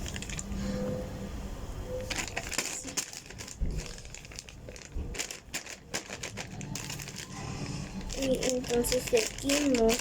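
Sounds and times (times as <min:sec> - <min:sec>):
plastic bag crinkling: 0:00.0 - 0:00.5, 0:02.0 - 0:10.0.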